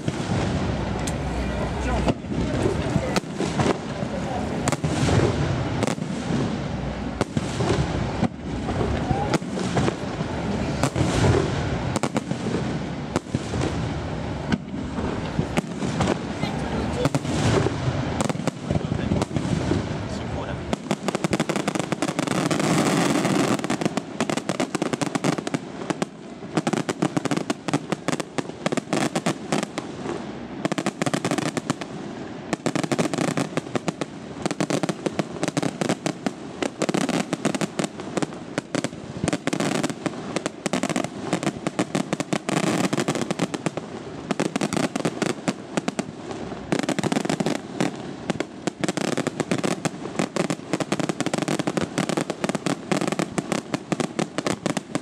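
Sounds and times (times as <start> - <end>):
fireworks bursts and crackling: 0.0 - 55.0.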